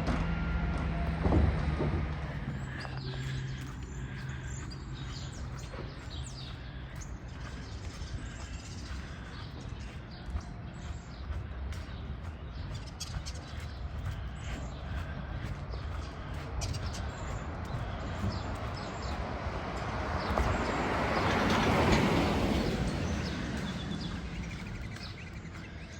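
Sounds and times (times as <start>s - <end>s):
diesel engine humming: 0.0s - 25.9s
small birds chirping: 0.9s - 25.9s.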